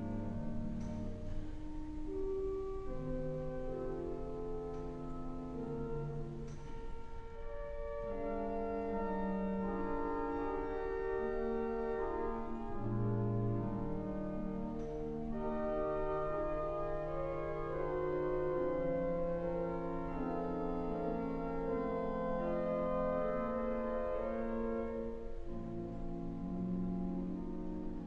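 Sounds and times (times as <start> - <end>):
pipe organ chords: 0.0 - 28.0.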